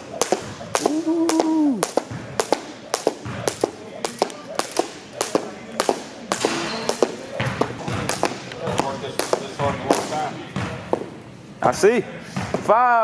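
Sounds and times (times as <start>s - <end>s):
jump rope slapping floor: 0.0s - 11.1s
shoes tapping on gym floor: 0.0s - 11.2s.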